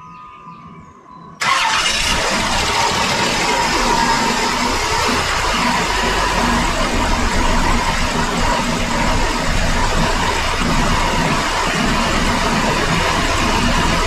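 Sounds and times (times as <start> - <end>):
car engine idling: 1.4 - 14.0.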